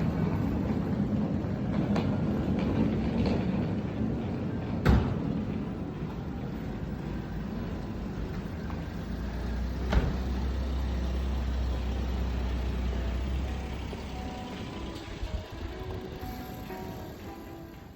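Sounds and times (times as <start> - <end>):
vehicle engine rumbling: 0.0 - 17.9.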